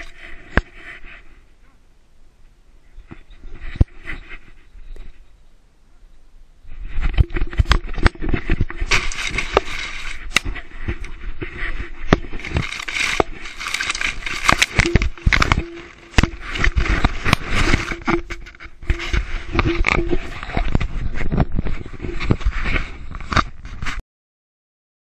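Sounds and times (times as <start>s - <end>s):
rustling and scraping in grass: 0.0s - 1.5s, 2.8s - 5.4s, 6.6s - 24.0s.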